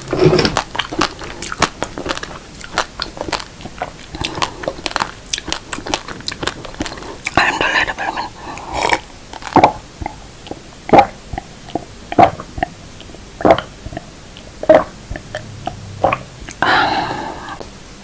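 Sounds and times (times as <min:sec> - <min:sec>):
crunching of rice being chewed: 0:00.0 - 0:16.7.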